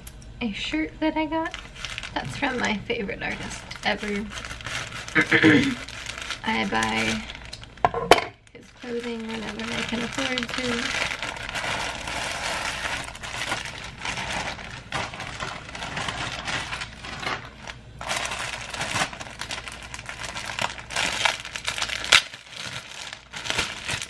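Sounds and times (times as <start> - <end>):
plastic packaging crinkling: 1.4 - 24.0.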